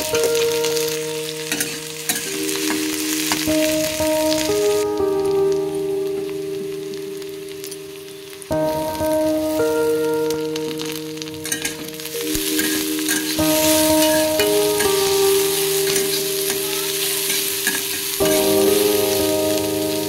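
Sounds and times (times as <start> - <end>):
background music of held chords: 0.0 - 20.0
vegetables sizzling in oil: 0.0 - 20.0.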